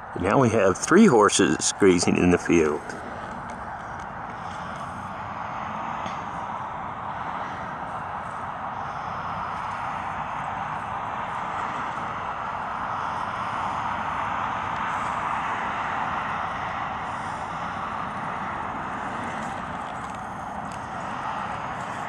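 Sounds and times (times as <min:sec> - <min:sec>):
steady rushing background noise: 0:00.0 - 0:22.0.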